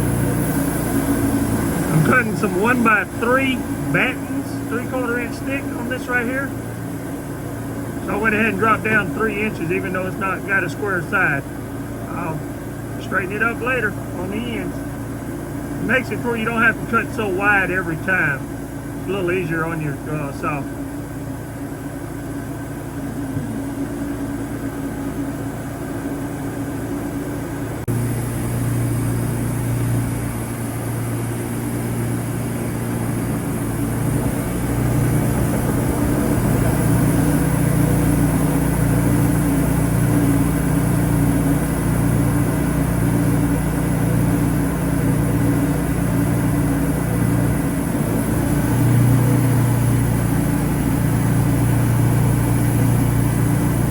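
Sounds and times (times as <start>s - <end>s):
band sawmill running: 0.0s - 53.9s.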